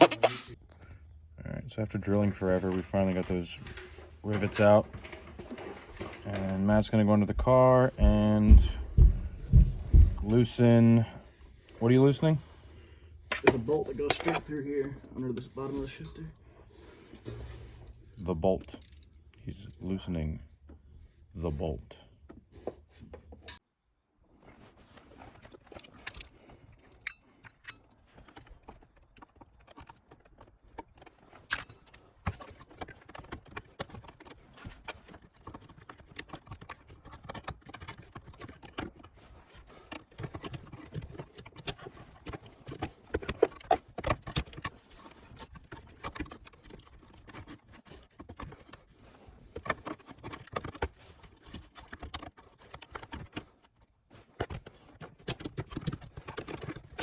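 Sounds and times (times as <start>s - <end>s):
hand tools clicking and rattling: 2.0s - 11.0s, 13.3s - 19.9s, 25.2s - 53.6s, 54.2s - 57.0s.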